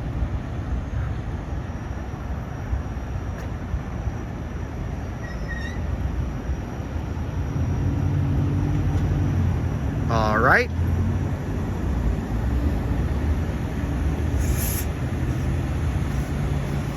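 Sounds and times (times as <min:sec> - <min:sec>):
train hum: 0:00.0 - 0:16.9
train rumble: 0:00.0 - 0:16.9.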